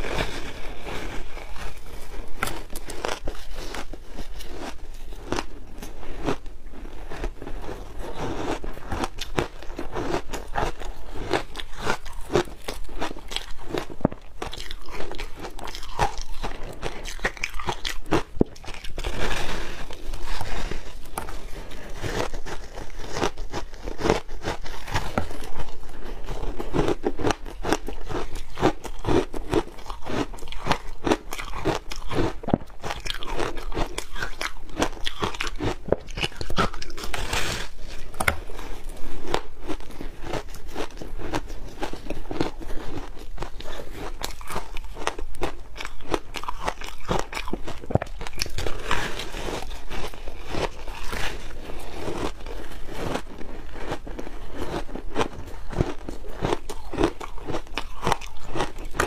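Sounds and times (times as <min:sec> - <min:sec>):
ice being chewed crunching: 0:00.0 - 0:59.0.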